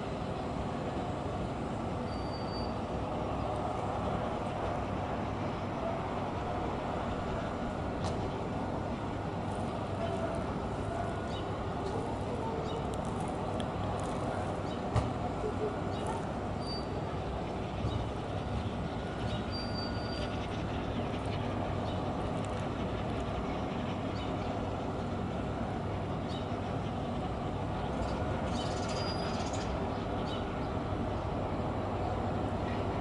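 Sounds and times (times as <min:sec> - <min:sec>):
ship engines rumbling: 0:00.0 - 0:33.0.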